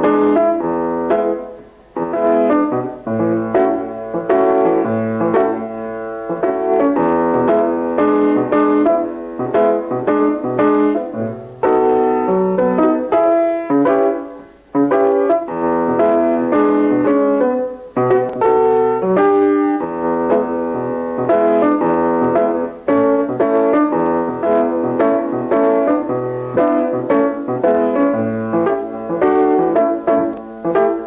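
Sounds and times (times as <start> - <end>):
instrumental music: 0.0 - 31.0.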